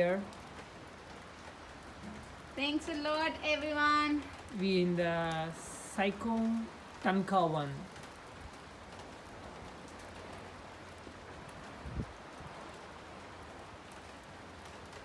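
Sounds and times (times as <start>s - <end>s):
light rain patter: 0.0s - 15.0s.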